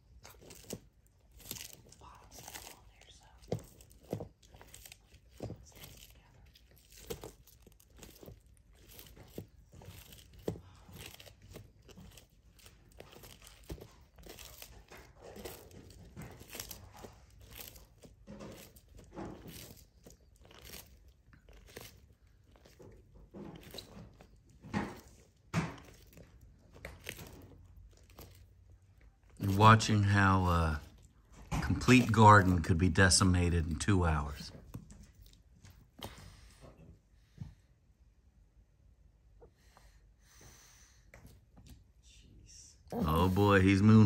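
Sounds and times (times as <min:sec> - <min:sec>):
tortoise crunching food: 0:00.0 - 0:36.8, 0:42.9 - 0:44.0.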